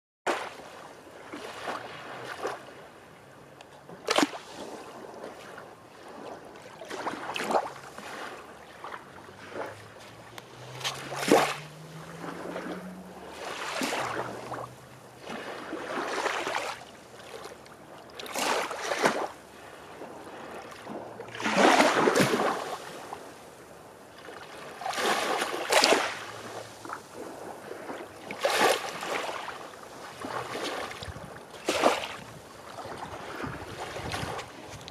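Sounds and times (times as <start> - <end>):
wave splashing: 0.3 - 3.1, 3.8 - 34.9
small waves washing onto beach: 0.3 - 34.9.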